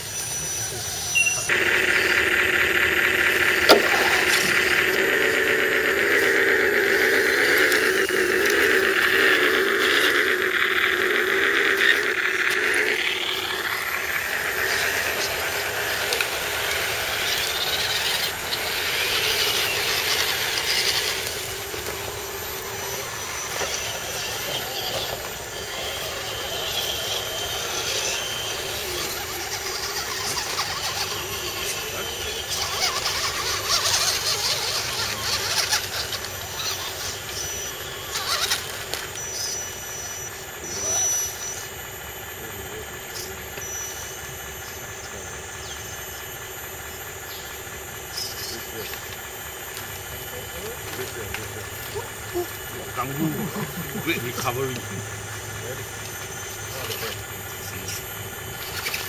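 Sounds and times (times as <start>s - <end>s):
rc truck motors whining: 0.0s - 59.0s.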